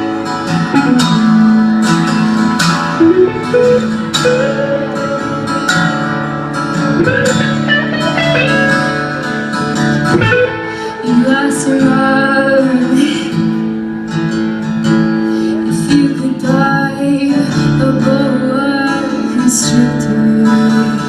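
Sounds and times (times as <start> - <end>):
guitar melody: 0.0 - 21.0
live band playing: 0.0 - 21.0.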